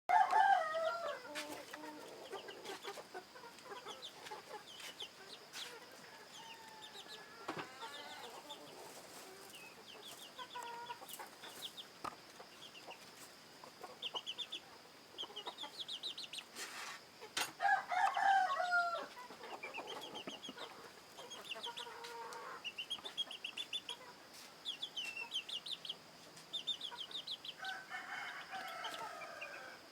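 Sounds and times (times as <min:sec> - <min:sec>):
chickens clucking and calling: 0:00.1 - 0:29.9.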